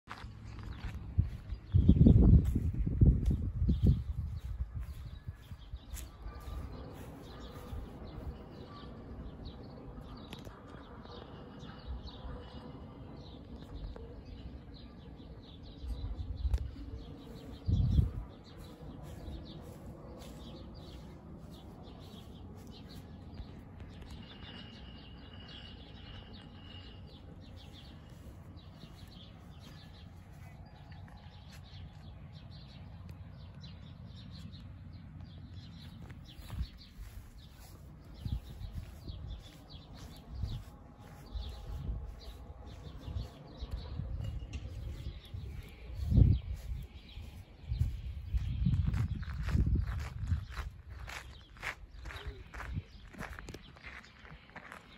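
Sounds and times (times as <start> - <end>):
low outdoor rumble: 0.1 - 54.8
small birds chirping: 0.1 - 54.9.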